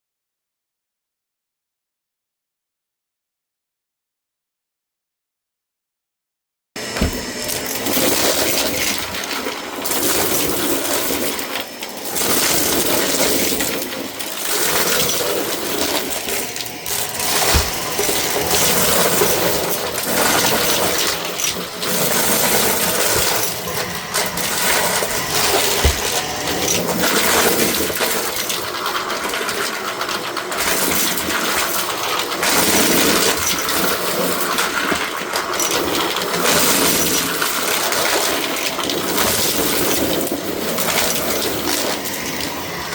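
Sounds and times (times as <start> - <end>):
vacuum cleaner running: 6.8 - 42.9.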